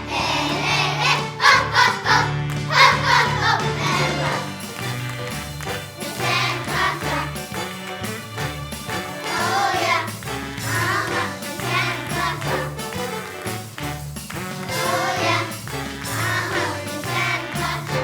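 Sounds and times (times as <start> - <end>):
children's choir singing: 0.0 - 8.1, 8.8 - 13.6, 14.6 - 18.0
instrumental accompaniment with bass: 0.0 - 18.0.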